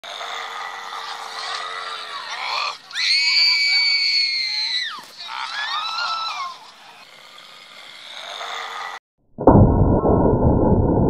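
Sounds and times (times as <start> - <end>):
shrill screaming and wailing: 0.0 - 9.0.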